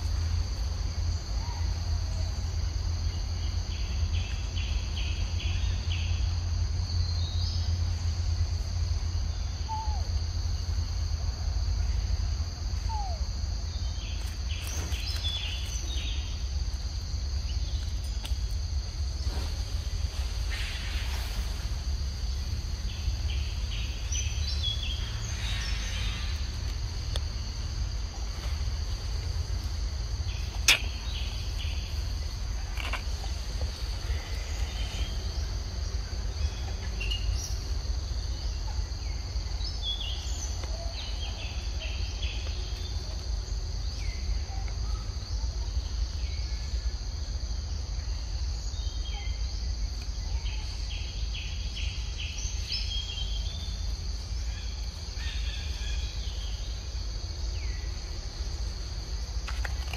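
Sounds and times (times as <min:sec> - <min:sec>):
insect drone: 0:00.0 - 0:59.9.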